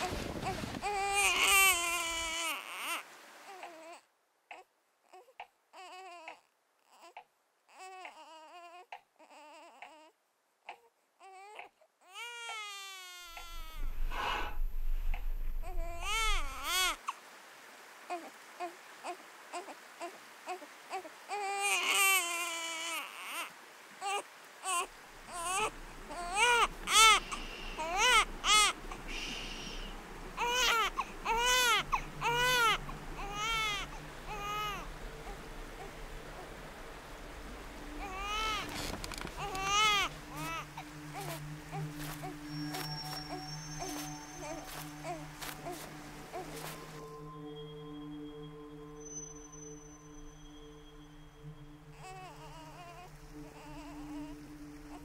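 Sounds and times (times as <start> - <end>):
infant crying: 0.5 - 14.4, 15.2 - 17.2, 18.1 - 29.1, 30.3 - 36.5, 37.7 - 47.0, 51.9 - 55.0.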